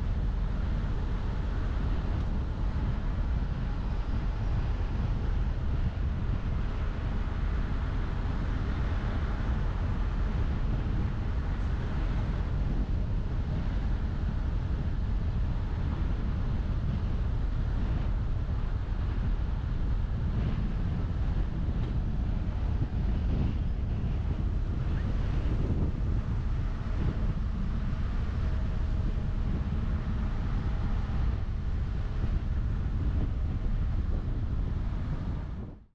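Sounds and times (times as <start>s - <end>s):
car road and wind noise: 0.0s - 35.9s.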